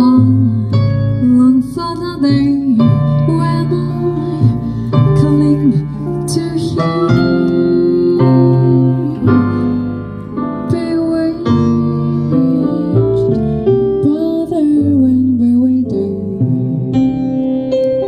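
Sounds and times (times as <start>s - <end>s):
woman singing: 0.0s - 17.2s
keyboard chords: 0.0s - 18.0s
upright bass notes: 0.0s - 18.0s.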